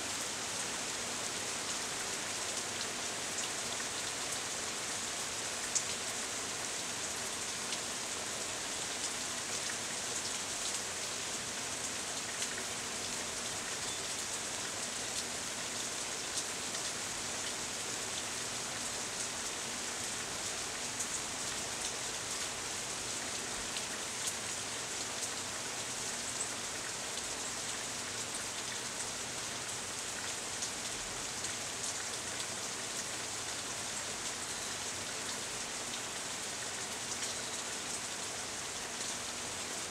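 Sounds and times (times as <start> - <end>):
sharp ticks of raindrops: 1.6 - 4.4, 5.4 - 8.0, 8.6 - 38.4.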